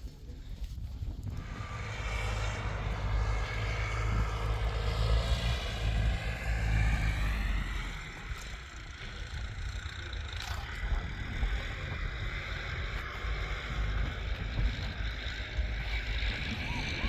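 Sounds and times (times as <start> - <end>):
engine passing by: 1.2 - 17.0.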